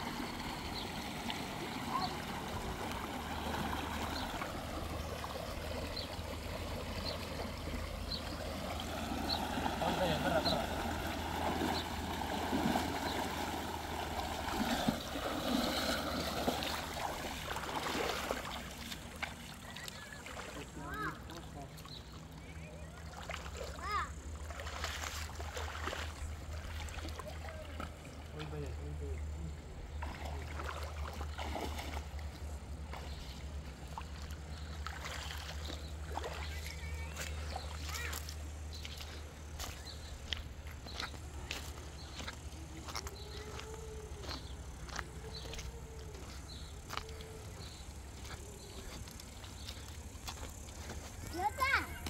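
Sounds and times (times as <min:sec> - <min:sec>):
rushing river water: 0:00.0 - 0:28.5, 0:30.0 - 0:52.0.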